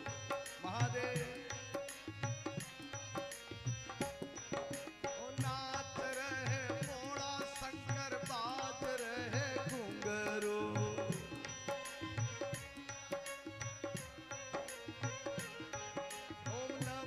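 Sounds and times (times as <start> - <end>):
harmonium chords: 0.0 - 17.0.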